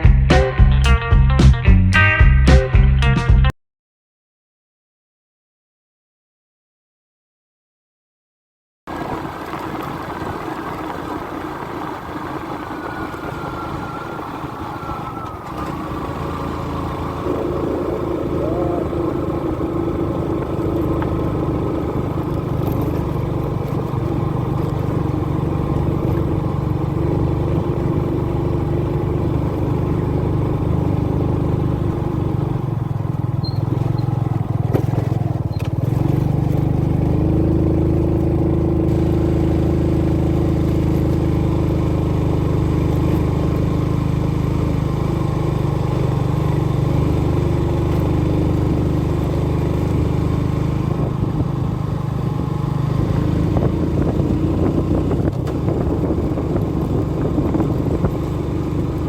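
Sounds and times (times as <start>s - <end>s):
motorbike engine running: 8.9s - 59.0s.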